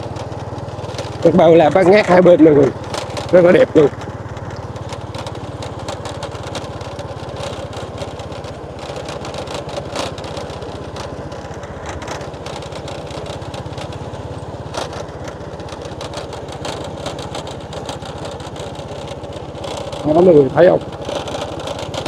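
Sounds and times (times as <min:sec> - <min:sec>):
small vehicle engine running: 0:00.0 - 0:22.0
wind and road noise: 0:00.0 - 0:22.0.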